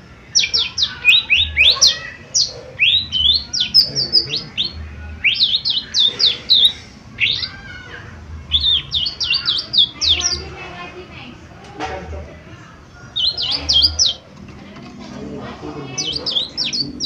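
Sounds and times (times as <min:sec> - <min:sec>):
bird singing chattering song: 0:00.0 - 0:11.4, 0:12.8 - 0:17.0.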